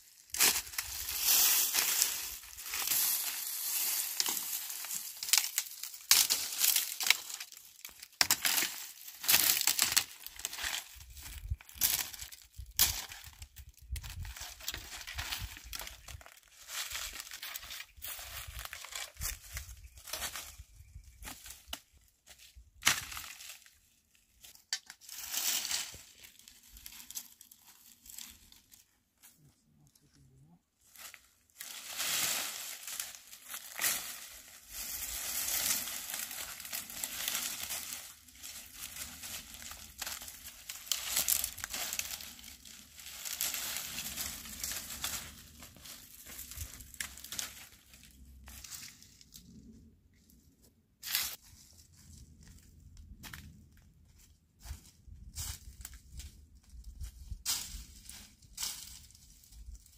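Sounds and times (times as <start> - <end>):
dry brushwood rustling and crackling: 0.0 - 29.4, 30.8 - 59.9.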